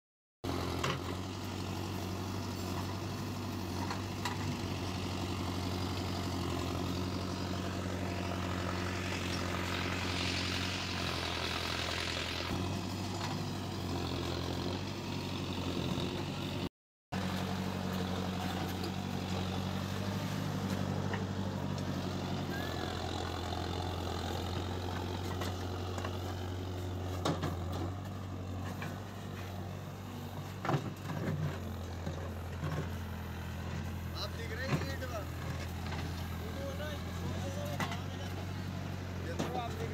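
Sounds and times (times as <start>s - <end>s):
tractor diesel engine running: 0.4s - 39.9s.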